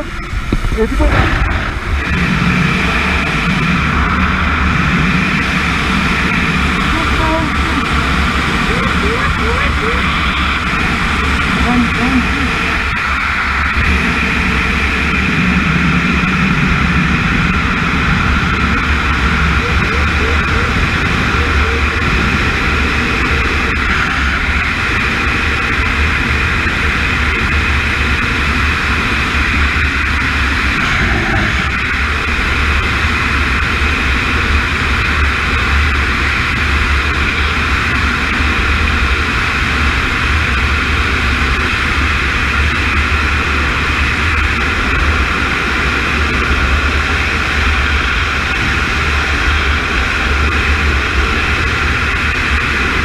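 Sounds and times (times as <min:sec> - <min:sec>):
aircraft engine running: 0:00.0 - 0:53.0.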